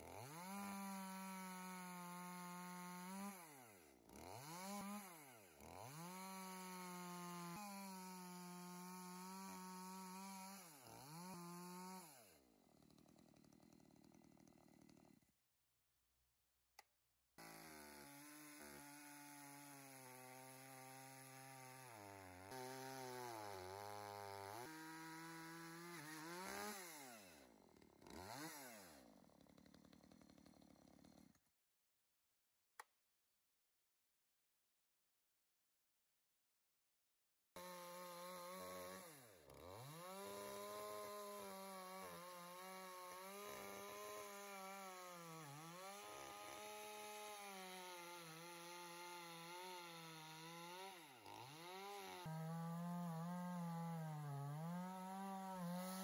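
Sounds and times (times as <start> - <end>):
chainsaw cutting into log: 0.0 - 15.4, 17.4 - 31.4, 37.6 - 56.0.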